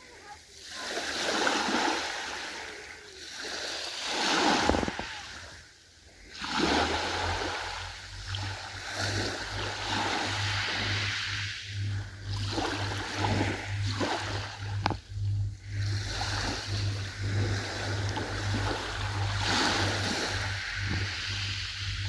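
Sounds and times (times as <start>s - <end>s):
ocean waves splashing: 0.0s - 22.0s
low pulsing hum: 4.3s - 22.0s.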